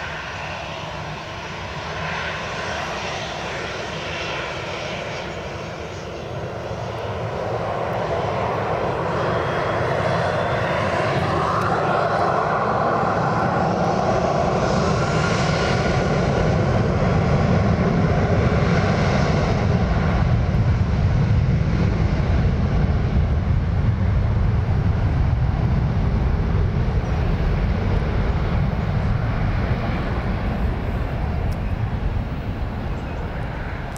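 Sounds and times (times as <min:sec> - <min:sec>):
jet engines spooling up: 0:00.0 - 0:23.0, 0:24.5 - 0:33.9.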